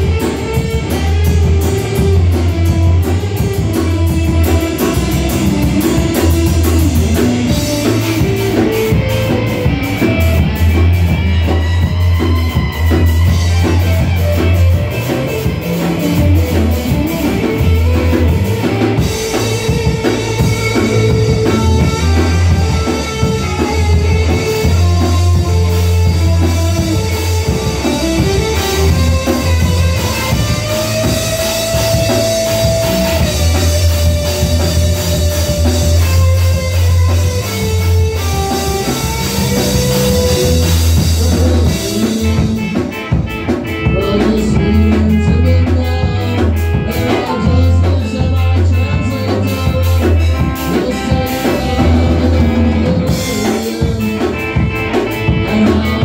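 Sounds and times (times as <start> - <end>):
drum kit: 0.0 - 56.0
electric bass line: 0.0 - 56.0
electric guitar: 0.0 - 56.0.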